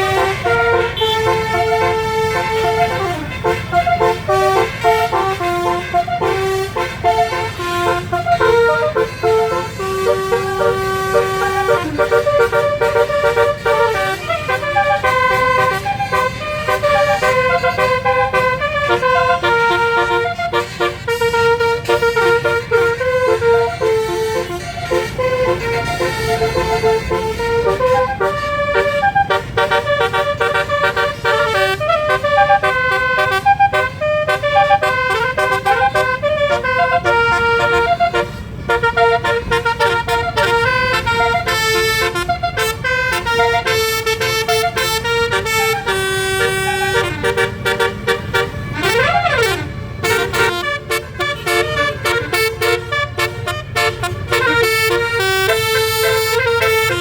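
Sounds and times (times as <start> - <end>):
multi-trumpet bus horn melody: 0.0 - 57.0.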